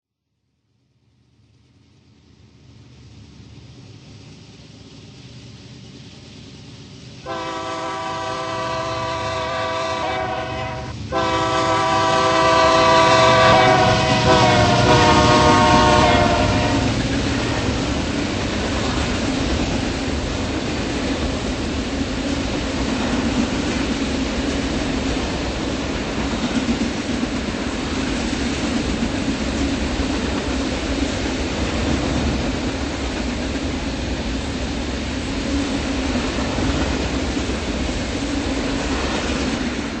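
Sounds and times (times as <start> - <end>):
train passing at speed: 1.1 - 40.0
wheels clacking on rails: 2.8 - 40.0.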